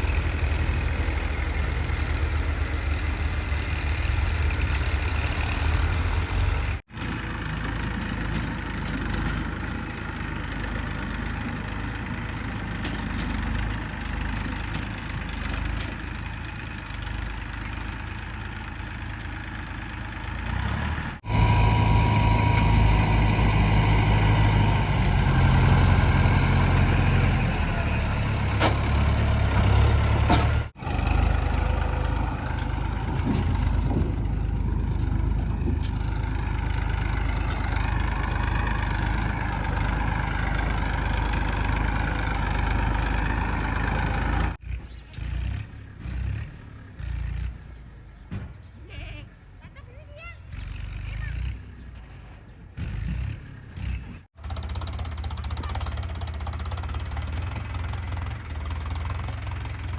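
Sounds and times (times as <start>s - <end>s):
heavy diesel engine running: 0.0s - 45.4s, 52.9s - 59.9s.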